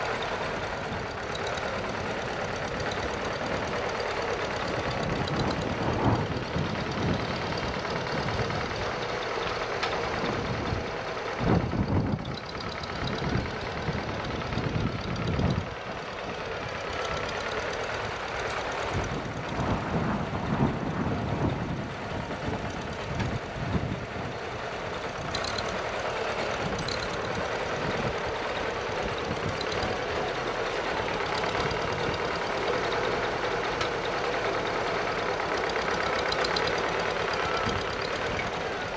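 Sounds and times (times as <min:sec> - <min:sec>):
tractor engine under load: 0:00.0 - 0:38.9.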